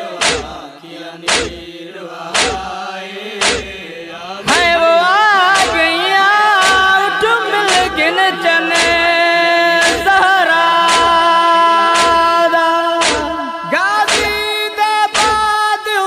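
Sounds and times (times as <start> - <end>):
humming vocal drone: 0.0 - 14.4
rhythmic chest-beating slaps: 0.0 - 15.6.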